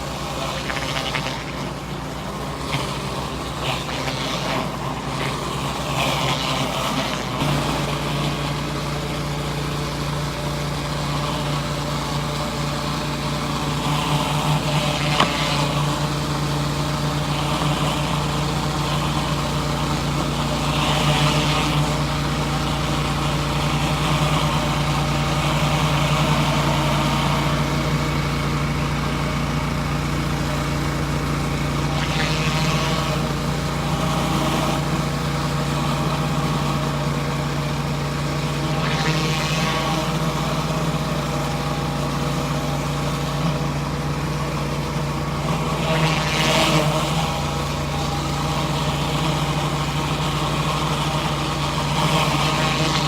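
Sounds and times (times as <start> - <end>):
pressure washer engine running: 0.0 - 53.0.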